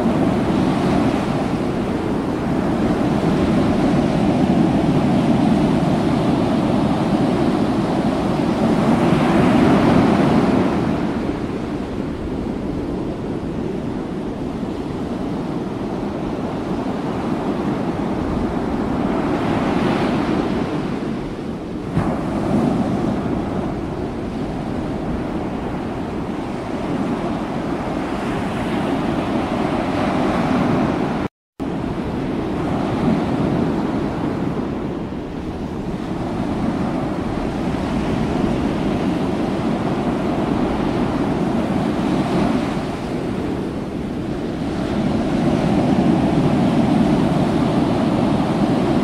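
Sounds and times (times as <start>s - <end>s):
wind on microphone: 0.0s - 49.0s.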